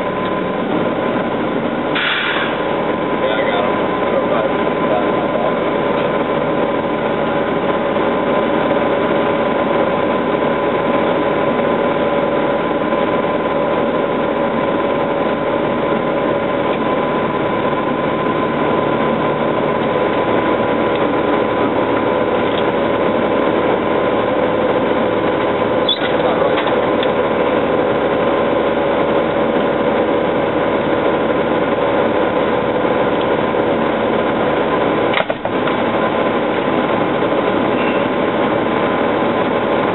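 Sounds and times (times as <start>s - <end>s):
constant whine: 0.0s - 39.9s
vehicle engine idling: 0.0s - 39.9s.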